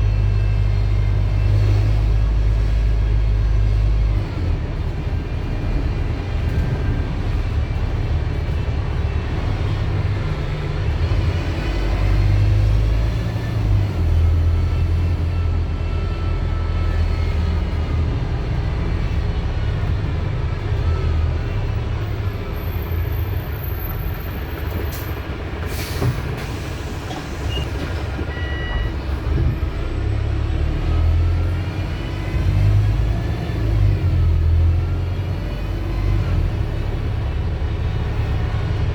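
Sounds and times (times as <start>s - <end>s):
bus diesel engine rumbling: 0.0s - 38.9s.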